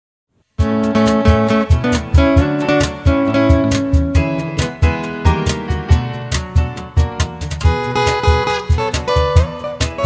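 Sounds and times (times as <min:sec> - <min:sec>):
acoustic guitar strummed and picked: 0:00.5 - 0:10.0
steady low beat: 0:00.6 - 0:10.0.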